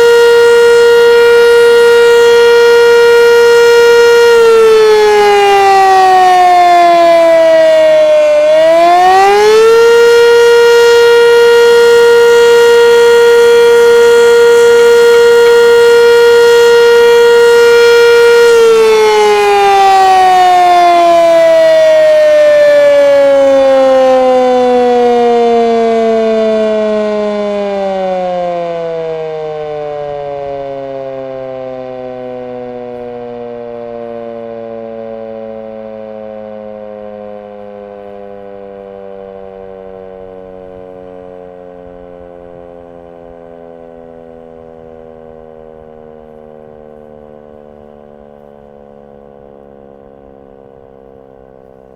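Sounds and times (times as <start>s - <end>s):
electromechanical siren wailing: 0.0s - 51.9s.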